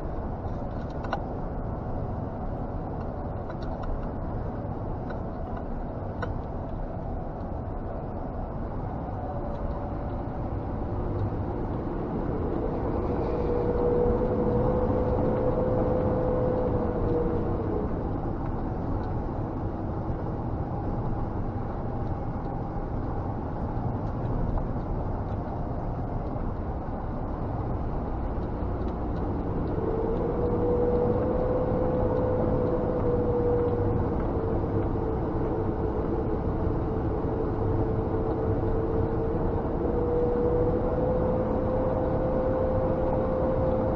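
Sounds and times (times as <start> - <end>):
truck engine and road rumble: 0.0 - 43.9
truck whine: 0.0 - 43.9.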